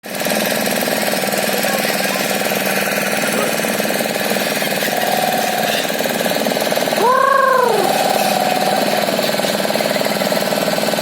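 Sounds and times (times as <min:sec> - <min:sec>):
motorboat engine knocking: 0:00.0 - 0:11.0.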